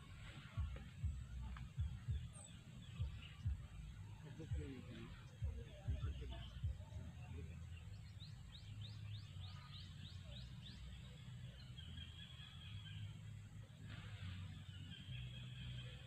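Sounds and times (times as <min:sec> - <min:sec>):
bird chirping: 0:00.0 - 0:16.0
faint low rumble: 0:00.0 - 0:16.0.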